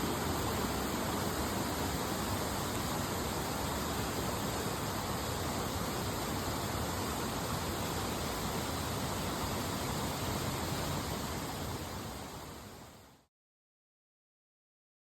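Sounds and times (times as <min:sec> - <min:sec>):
mountain stream rushing: 0:00.0 - 0:13.3.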